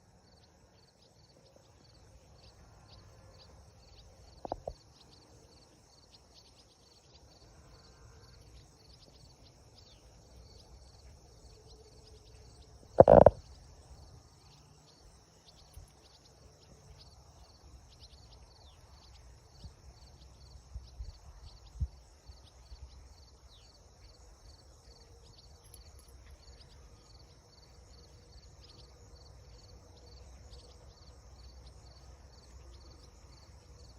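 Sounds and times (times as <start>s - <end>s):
insect chirping: 0.0s - 33.9s.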